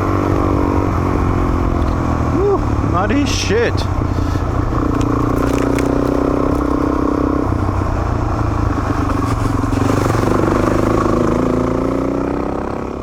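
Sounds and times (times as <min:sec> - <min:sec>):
off-road motorcycle engine: 0:00.0 - 0:13.0.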